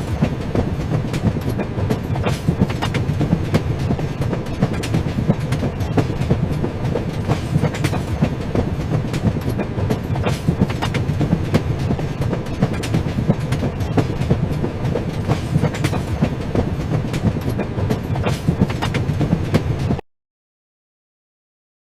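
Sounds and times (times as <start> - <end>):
train wheels clacking over rail joints: 0.0 - 20.0.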